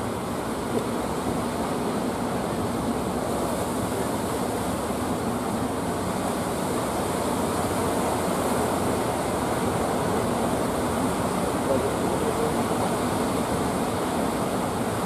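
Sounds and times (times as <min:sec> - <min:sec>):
surf breaking ashore: 0:00.0 - 0:15.0
wind: 0:00.0 - 0:15.0.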